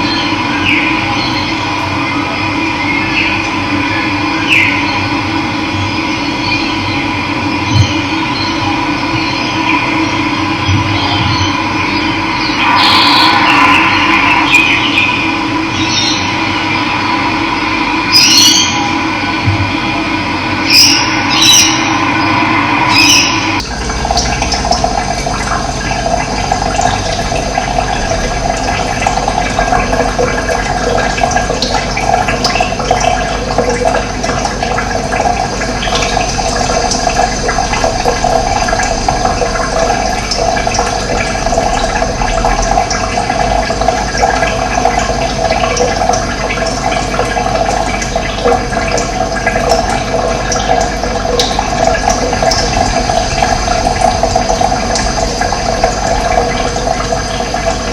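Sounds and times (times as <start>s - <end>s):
running water: 0.0s - 57.9s.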